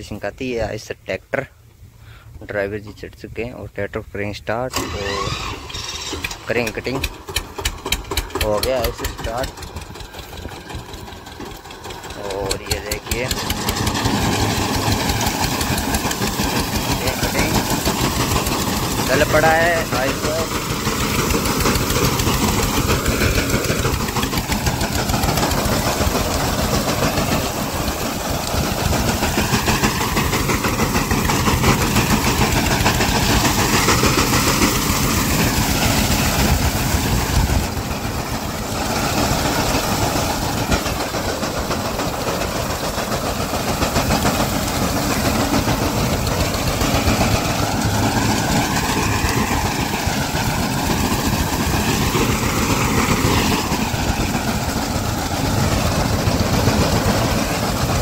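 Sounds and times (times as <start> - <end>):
tractor diesel engine running: 0.0 - 58.0
reaper cutting wheat: 11.4 - 58.0.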